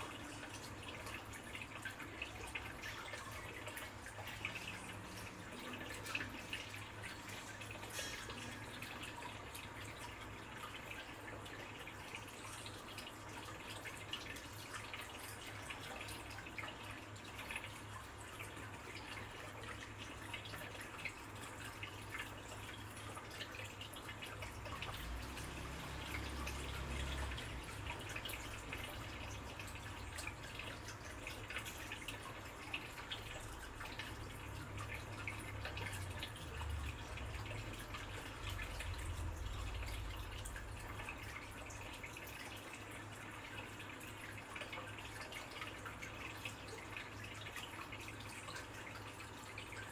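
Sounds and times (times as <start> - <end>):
low steady hum: 0.0 - 49.9
water dripping and trickling: 0.0 - 49.9.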